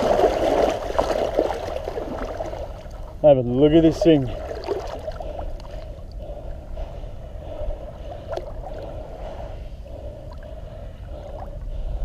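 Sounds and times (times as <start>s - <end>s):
water lapping at shoreline: 0.0s - 11.9s
low steady rumble: 0.0s - 12.0s.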